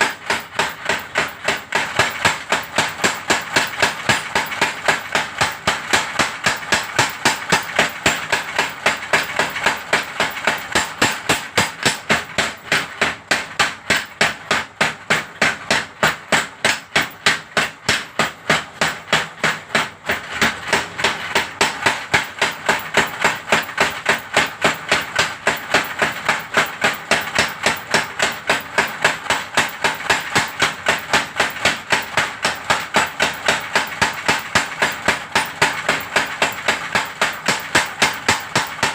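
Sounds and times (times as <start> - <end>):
power hammer striking: 0.0 - 38.9.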